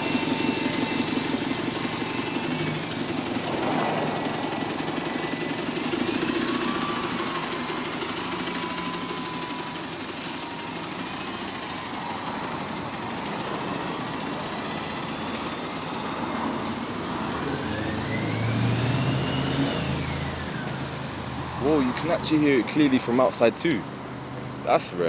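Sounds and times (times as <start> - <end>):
bus turbocharger whine: 0.0 - 24.8
diesel engine running: 0.0 - 25.0.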